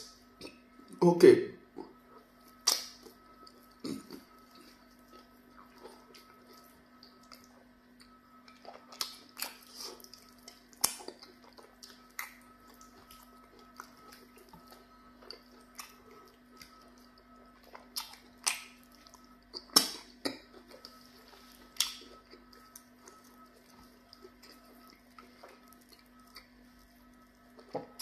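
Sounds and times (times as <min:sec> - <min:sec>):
faint steady hum: 0:00.0 - 0:28.0
wet eating and chewing: 0:01.7 - 0:28.0.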